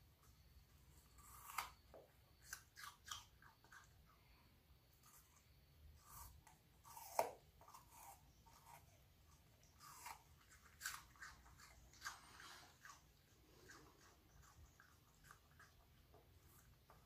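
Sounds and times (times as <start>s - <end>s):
dog crunching and chewing apple: 0.2s - 4.2s, 4.9s - 17.0s.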